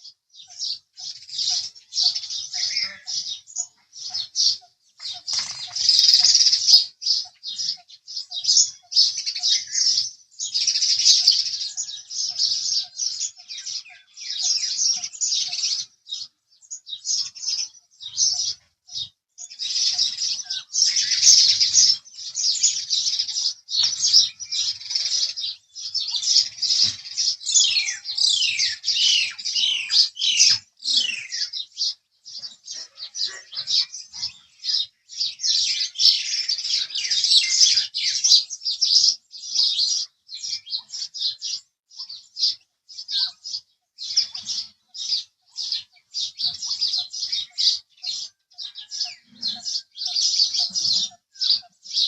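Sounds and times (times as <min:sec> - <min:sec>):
sparrows chirping: 0:00.0 - 0:52.0.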